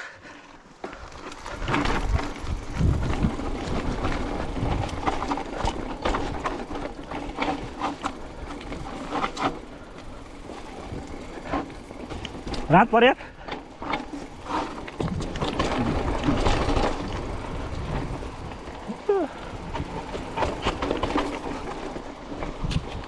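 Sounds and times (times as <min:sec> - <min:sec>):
tyres on dirt and rocks: 0:00.0 - 0:23.0
bike chain rattling and clicking: 0:00.4 - 0:23.0
rumbling bumps: 0:00.9 - 0:23.0.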